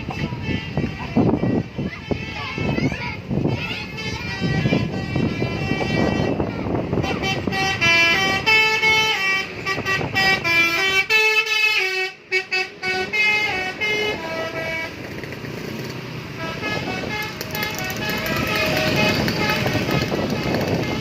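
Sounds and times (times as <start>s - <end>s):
bus musical horn tune: 0.0s - 2.7s, 3.3s - 15.0s, 16.3s - 21.0s
traffic noise: 0.0s - 21.0s.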